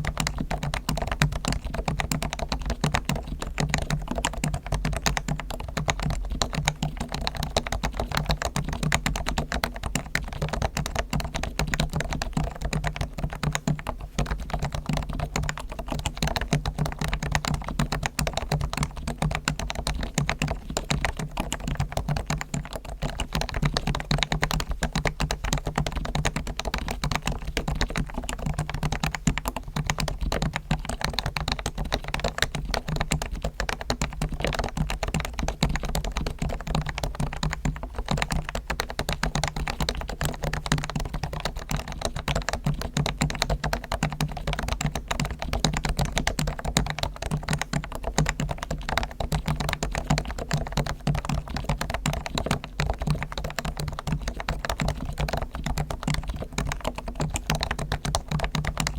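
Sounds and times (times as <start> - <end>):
rapid keyboard typing: 0.0 - 58.9.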